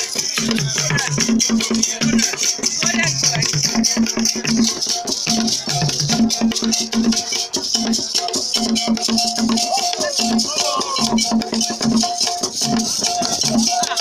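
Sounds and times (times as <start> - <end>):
barrel drums playing: 0.0 - 14.0
beaded gourd shaker: 0.0 - 14.0.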